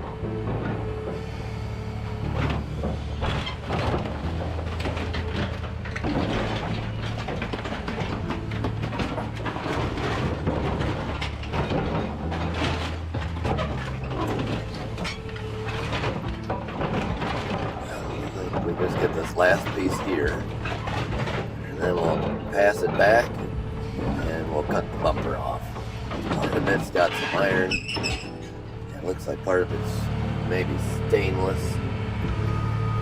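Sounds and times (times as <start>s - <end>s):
excavator diesel engine: 0.0s - 33.0s
metal clanking and scraping: 0.0s - 33.0s.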